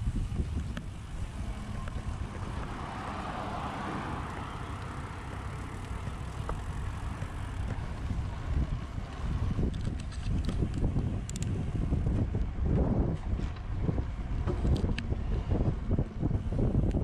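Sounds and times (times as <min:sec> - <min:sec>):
passing vehicle tyre noise: 0:00.0 - 0:17.0
wind buffeting microphone: 0:00.0 - 0:17.0.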